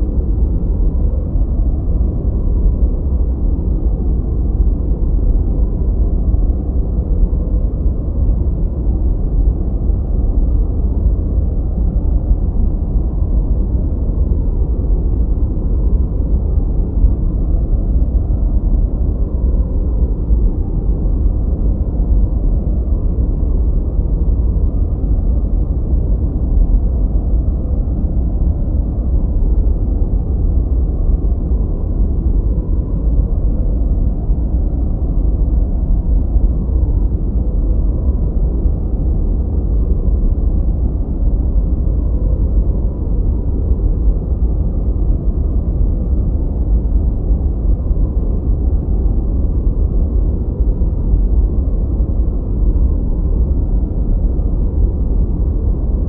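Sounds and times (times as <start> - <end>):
steady deep rumble noise: 0.0 - 56.0.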